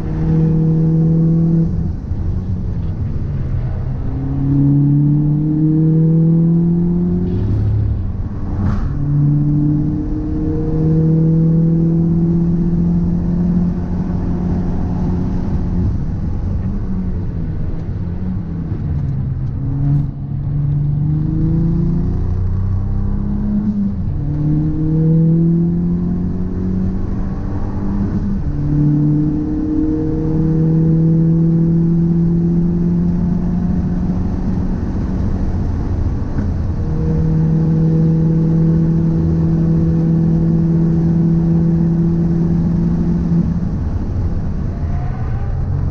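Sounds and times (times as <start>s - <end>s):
car drivetrain hum: 0.0s - 45.9s.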